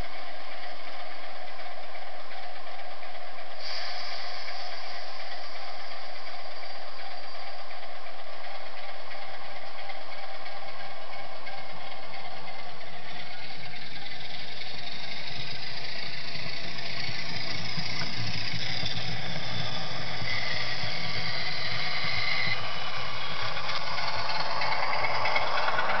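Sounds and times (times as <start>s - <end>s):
diesel engine sound from small speaker: 0.0s - 26.0s.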